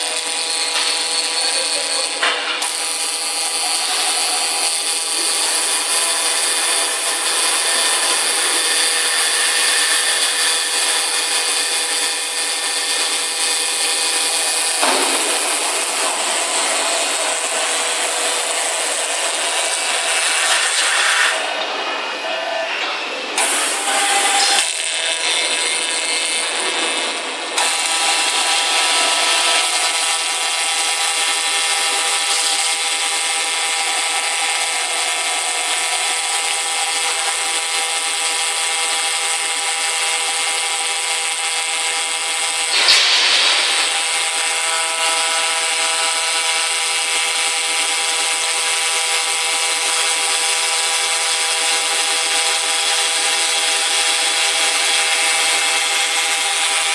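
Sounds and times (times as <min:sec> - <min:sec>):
laser cutter hiss and whine: 0:00.0 - 0:56.9.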